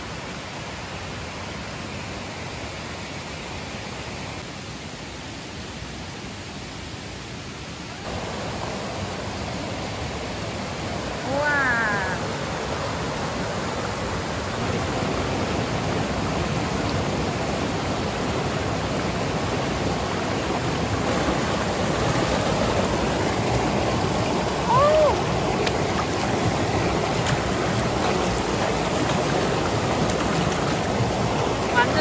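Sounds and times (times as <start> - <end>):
mountain stream rushing over rocks: 0.0 - 32.0.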